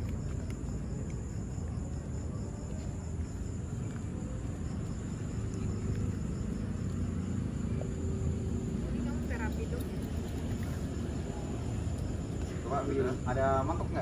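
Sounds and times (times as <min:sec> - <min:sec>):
crickets chirring: 0:00.0 - 0:14.0
low outdoor rumble: 0:00.0 - 0:14.0.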